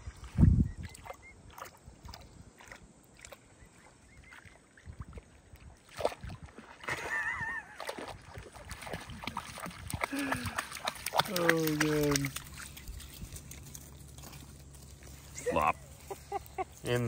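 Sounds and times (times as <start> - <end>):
water sloshing and splashing: 0.0 - 16.4.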